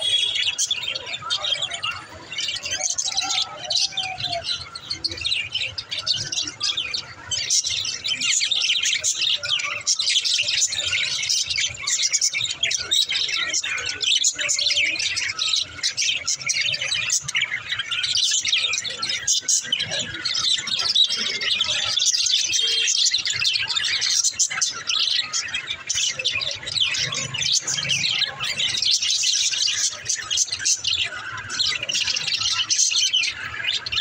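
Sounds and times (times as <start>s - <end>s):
budgerigars chirping and warbling: 0.0s - 34.0s.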